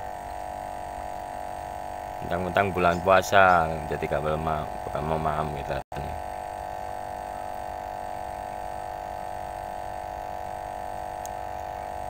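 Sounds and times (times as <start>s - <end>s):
steady even hum: 0.0s - 12.0s.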